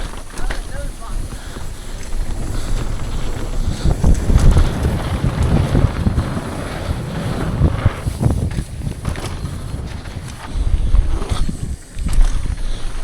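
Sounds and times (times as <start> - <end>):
bike knocks and rattles: 0.0 - 13.0
low rumbling: 0.0 - 13.0
wind rushing over microphone: 0.0 - 13.0.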